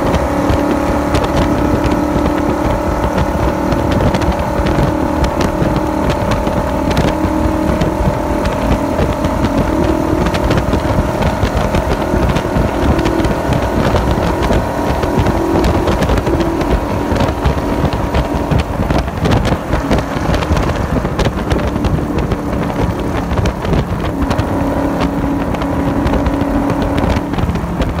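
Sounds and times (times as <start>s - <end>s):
car engine at high speed: 0.0s - 28.0s
wind buffeting microphone: 0.0s - 28.0s.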